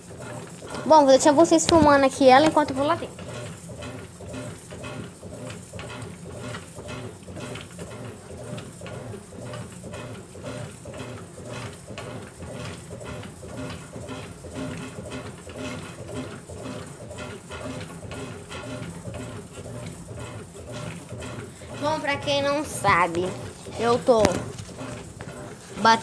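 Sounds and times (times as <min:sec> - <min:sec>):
washing machine agitator strokes: 0:00.0 - 0:26.0.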